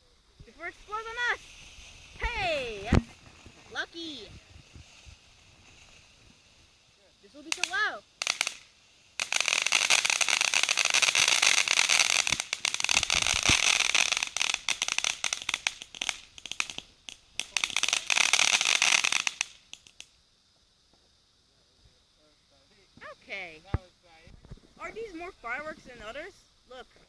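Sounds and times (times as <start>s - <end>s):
firework crackling and popping: 0.0s - 20.3s, 23.0s - 27.0s.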